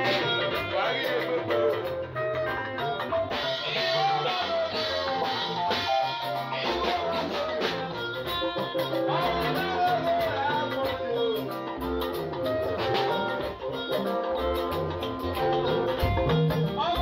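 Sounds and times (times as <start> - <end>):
bass: 0.0 - 17.0
drum kit: 0.0 - 17.0
keyboard: 0.0 - 17.0
live band playing: 0.0 - 17.0
melodic lead line: 0.0 - 17.0.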